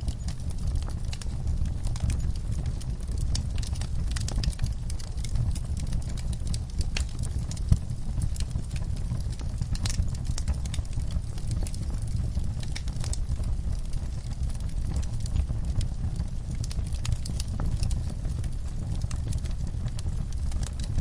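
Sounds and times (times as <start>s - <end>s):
fire popping: 0.0s - 21.0s
low rumble of flames: 0.0s - 21.0s
wood fire crackling: 0.0s - 21.0s.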